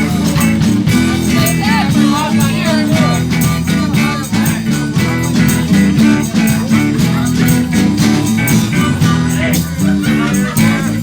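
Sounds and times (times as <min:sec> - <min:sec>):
bass: 0:00.0 - 0:11.0
guitar: 0:00.0 - 0:11.0
steady drum beat: 0:00.0 - 0:11.0.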